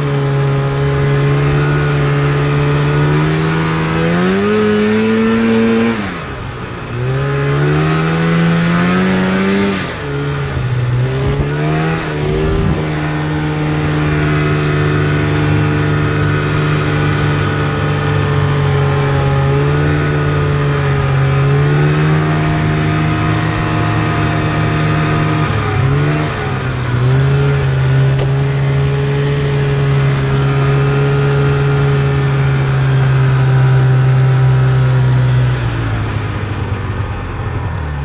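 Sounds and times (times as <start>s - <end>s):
snowmobile engine running: 0.0s - 38.0s.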